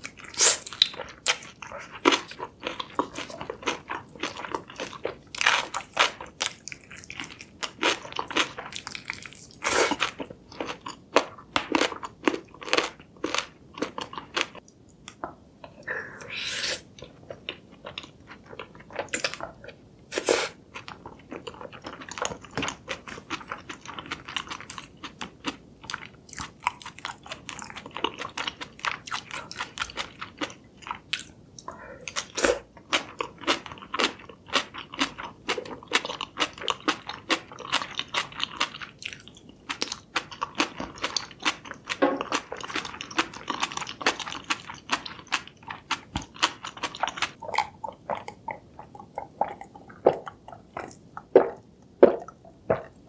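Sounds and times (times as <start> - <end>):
person chewing noodles: 0.0 - 53.0.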